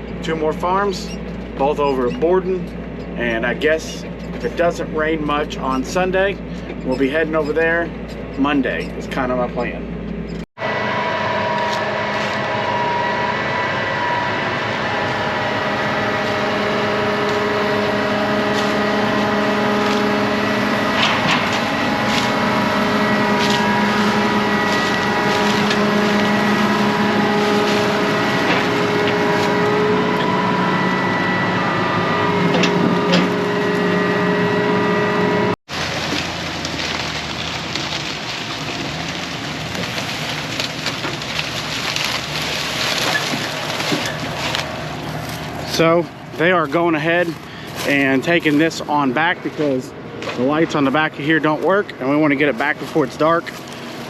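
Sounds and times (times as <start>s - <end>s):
steady whine: 0.0s - 35.6s, 40.5s - 54.0s
farm vehicle engine running: 0.0s - 54.0s.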